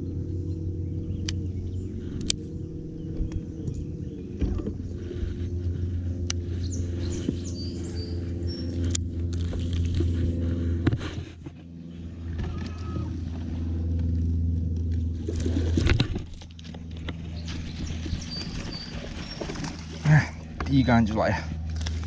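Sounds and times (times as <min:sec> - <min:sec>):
electric trolling motor humming: 0:00.0 - 0:22.0.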